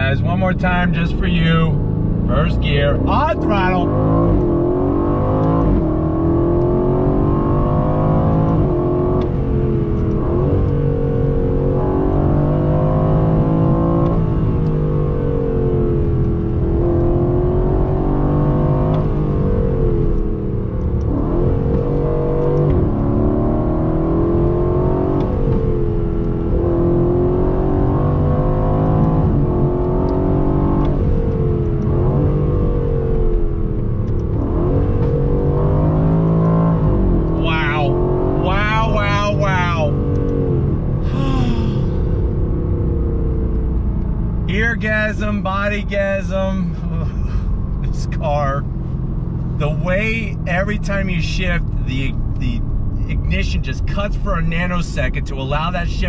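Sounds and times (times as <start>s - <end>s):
car engine accelerating with upshifts: 0.0s - 56.0s.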